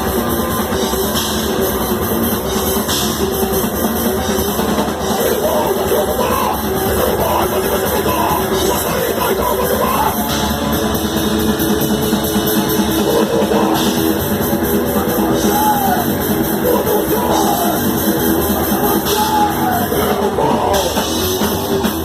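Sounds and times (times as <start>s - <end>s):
distorted electric guitar: 0.0s - 22.0s
drum kit with cymbals: 0.0s - 22.0s.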